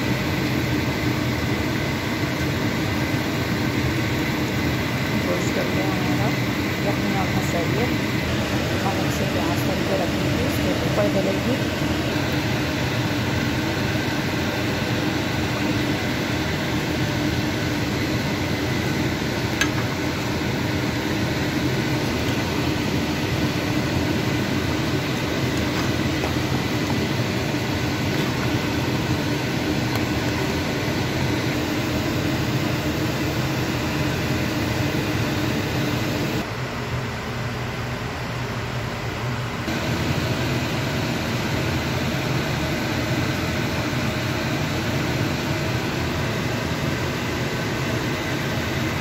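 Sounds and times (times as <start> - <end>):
mechanical whir with low hum: 0.0 - 49.0.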